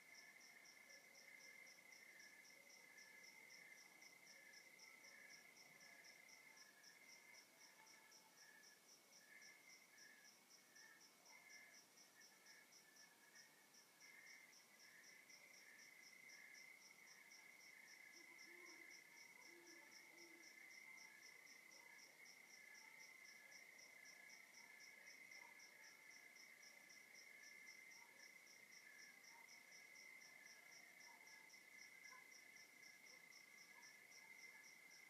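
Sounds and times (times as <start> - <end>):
high cricket chirp: 0.0 - 35.0.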